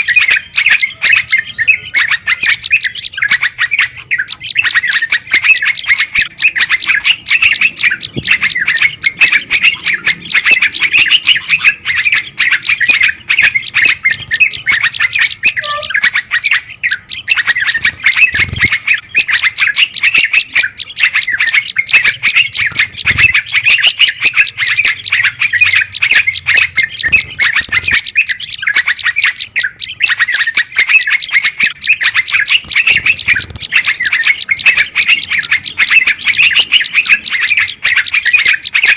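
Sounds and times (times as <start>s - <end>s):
songbirds chirping and chattering: 0.0s - 38.9s.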